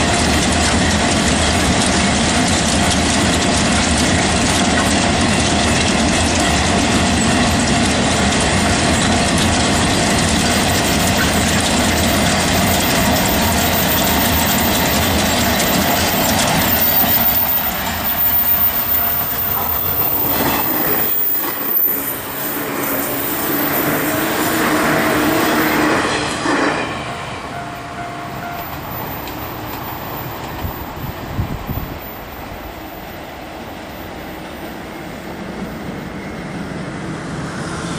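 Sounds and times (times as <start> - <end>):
freight train wheels clattering: 0.0 - 33.4.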